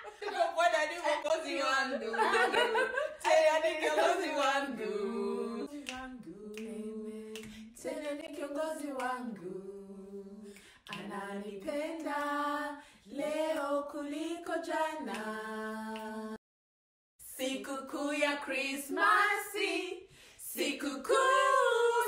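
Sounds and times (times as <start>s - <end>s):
women singing unaccompanied: 0.0s - 16.4s, 17.2s - 22.0s.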